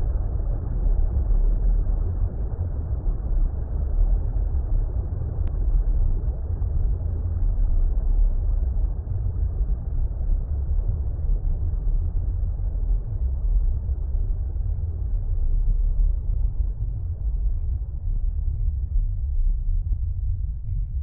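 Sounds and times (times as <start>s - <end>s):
deep muffled water rumble: 0.0s - 21.0s.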